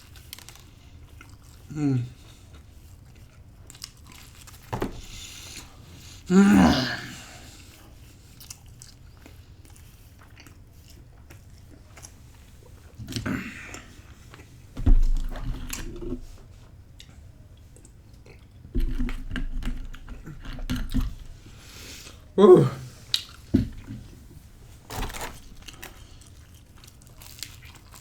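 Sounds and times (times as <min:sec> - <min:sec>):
person chewing crunchy pizza: 0:00.0 - 0:22.3, 0:22.9 - 0:28.0.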